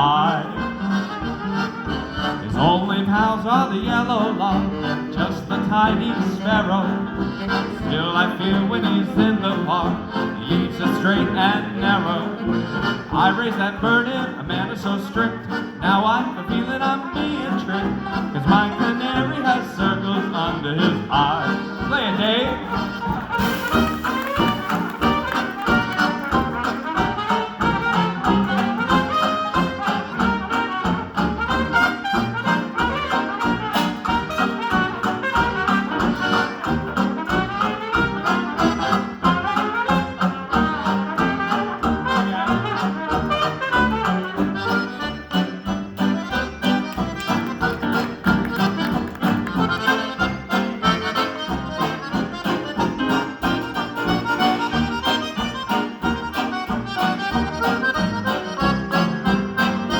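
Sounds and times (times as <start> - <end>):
accordion: 0.0 - 59.9
brass instruments: 0.0 - 59.9
dance band playing: 0.0 - 59.9.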